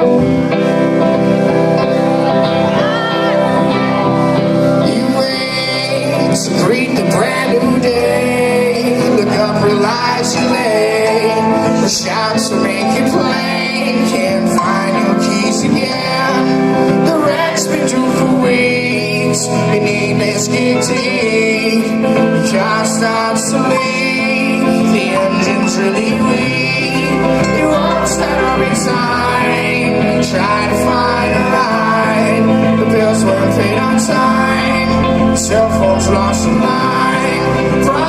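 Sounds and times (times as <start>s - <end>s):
guitar lines: 0.0s - 38.0s.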